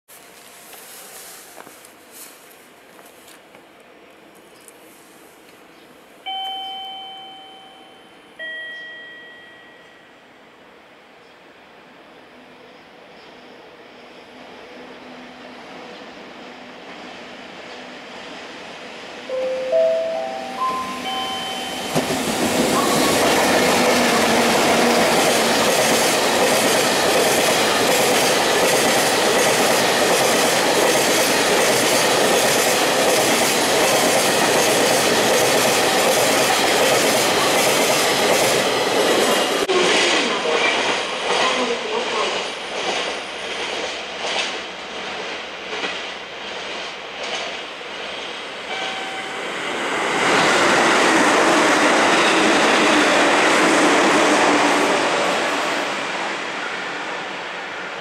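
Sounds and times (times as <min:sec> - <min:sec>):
freight train rumbling past: 0:06.0 - 0:58.0.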